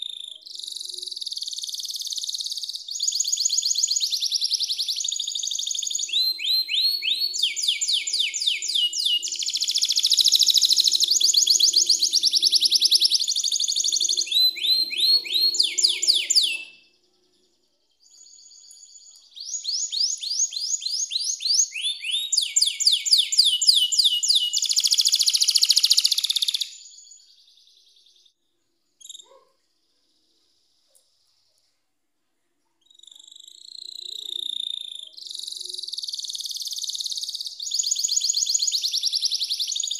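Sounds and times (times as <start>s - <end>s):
canary singing trills: 0.0s - 28.3s, 29.0s - 31.4s, 32.8s - 39.9s.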